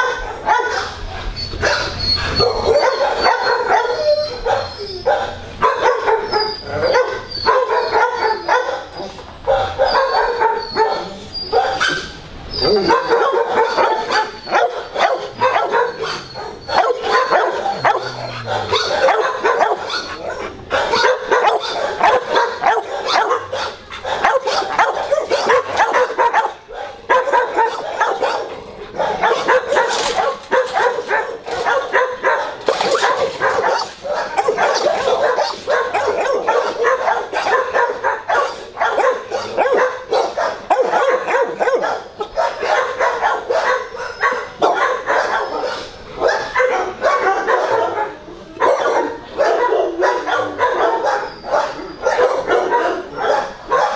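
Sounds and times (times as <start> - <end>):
dogs barking and yipping: 0.0 - 53.9.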